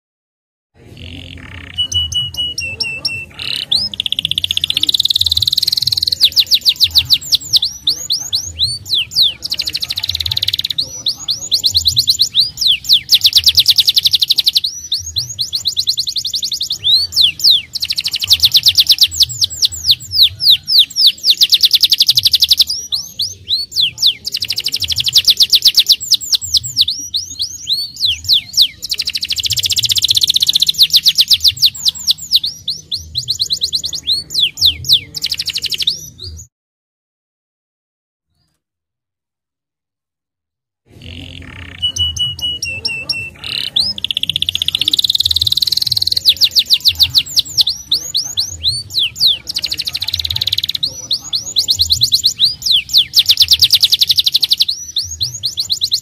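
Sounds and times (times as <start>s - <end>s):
canary singing in rapid trills: 0.8s - 36.5s, 40.9s - 56.0s.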